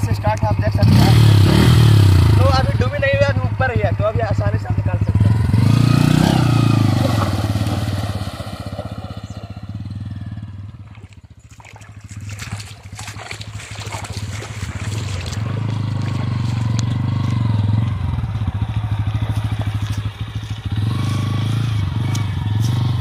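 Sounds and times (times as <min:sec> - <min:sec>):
motorcycle engine under throttle: 0:00.0 - 0:23.0.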